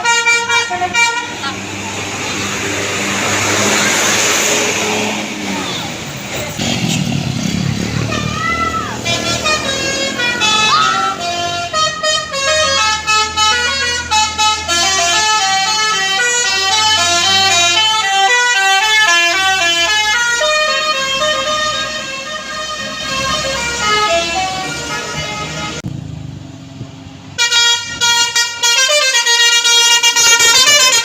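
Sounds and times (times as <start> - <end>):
multi-tone bus air horn tune: 0.0 - 4.6, 8.1 - 25.8, 27.4 - 31.0.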